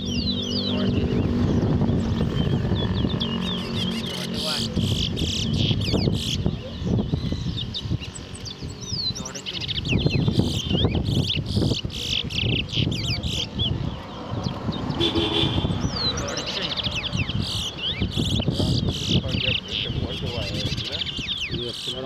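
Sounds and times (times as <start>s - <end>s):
finch singing whistled notes: 0.0s - 22.0s.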